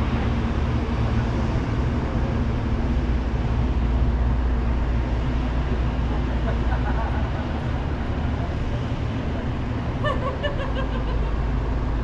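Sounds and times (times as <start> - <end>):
ship engine hum: 0.0 - 12.0.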